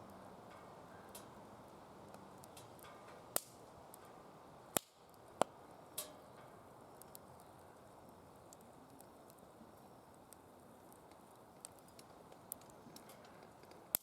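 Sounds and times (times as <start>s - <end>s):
fire popping: 0.0s - 14.0s
firewood crackling: 0.0s - 14.0s
low steady hiss: 0.0s - 14.0s.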